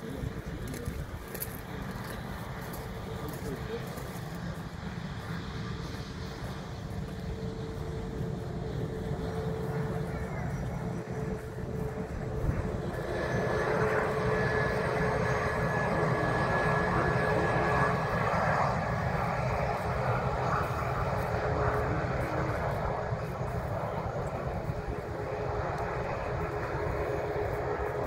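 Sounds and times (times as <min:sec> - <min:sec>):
jet engines with high whine: 0:00.0 - 0:28.0.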